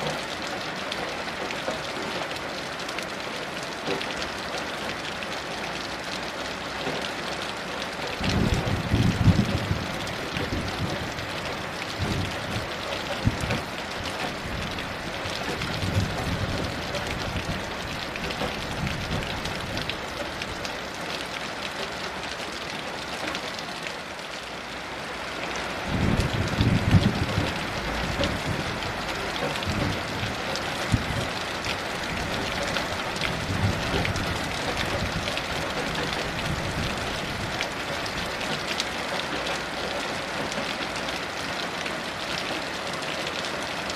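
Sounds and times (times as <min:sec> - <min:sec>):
close raindrops: 0:00.0 - 0:43.9
heavy rain falling: 0:00.0 - 0:43.9.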